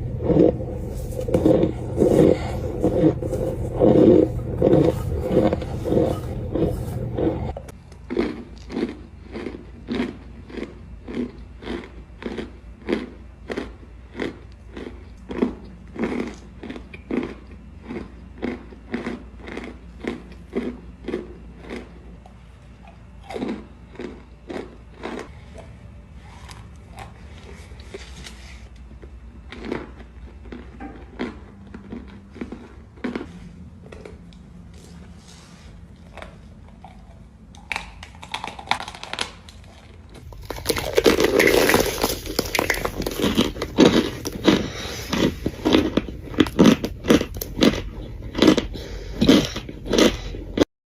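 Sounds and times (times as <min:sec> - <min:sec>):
crunchy food chewing: 0:00.0 - 0:50.7.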